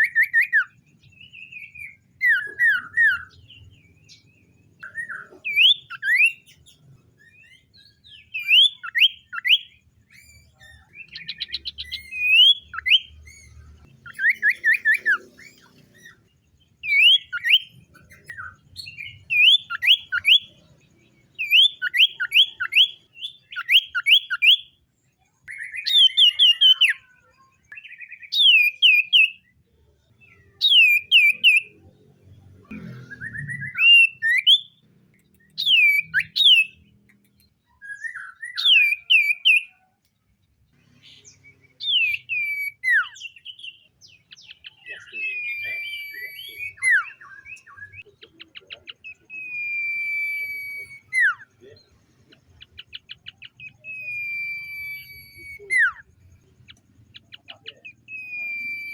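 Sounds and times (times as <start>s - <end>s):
bird singing whistled notes: 0.0s - 32.0s, 33.2s - 40.0s, 41.0s - 58.9s.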